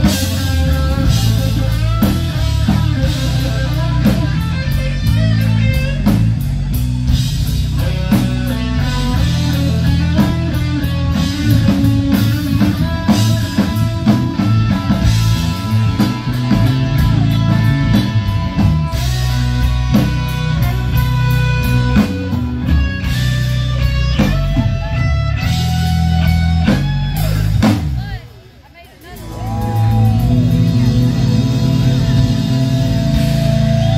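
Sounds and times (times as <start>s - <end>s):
bass guitar: 0.0s - 33.9s
drums: 0.0s - 33.9s
electric guitar: 0.0s - 33.9s.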